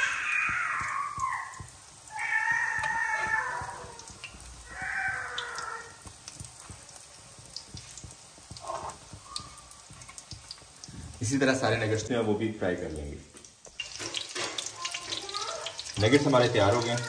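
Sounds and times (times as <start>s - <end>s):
food sizzling in oil: 0.0s - 12.4s, 13.0s - 17.0s.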